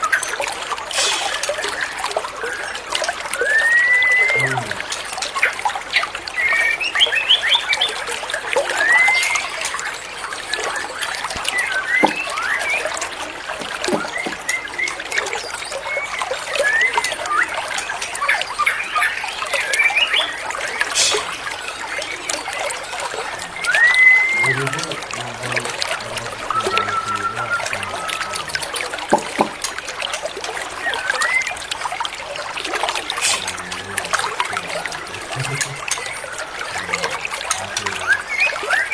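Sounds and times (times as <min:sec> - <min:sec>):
running water trickling: 0:00.0 - 0:38.9
bird singing whistles and twitters: 0:00.9 - 0:29.8, 0:30.7 - 0:31.9, 0:33.2 - 0:33.8, 0:35.3 - 0:38.9.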